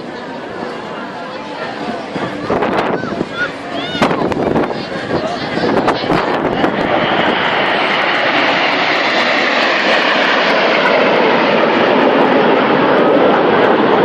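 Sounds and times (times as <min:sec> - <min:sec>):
aircraft engine overhead: 0:00.0 - 0:14.0.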